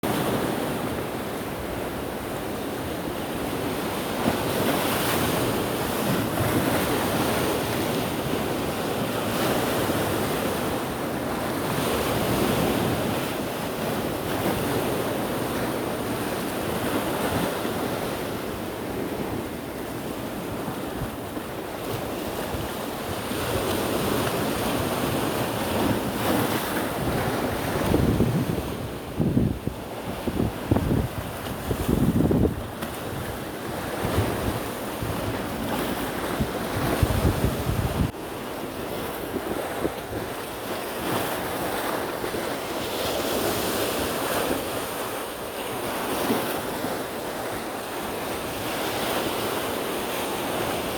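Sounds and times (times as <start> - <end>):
ocean waves breaking on rocks: 0.0 - 50.9.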